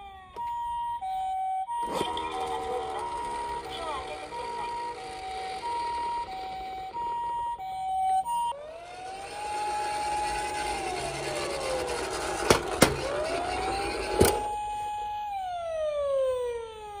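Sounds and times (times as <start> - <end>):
two-tone toy siren: 0.0 - 17.0
wailing toy police siren: 0.0 - 17.0.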